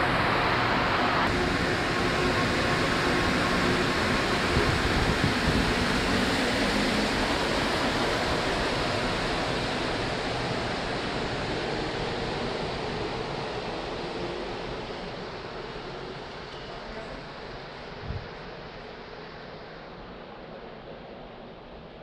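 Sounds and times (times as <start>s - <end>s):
train rumbling in tunnel: 0.0s - 22.0s.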